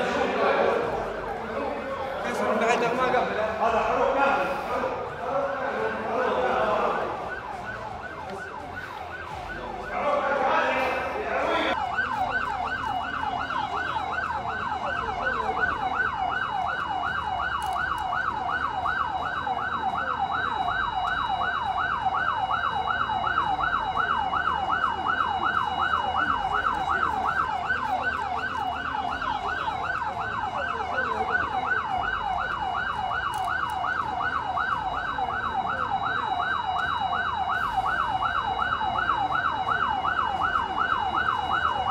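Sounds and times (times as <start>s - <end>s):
electronic siren yelping: 0.0s - 41.9s.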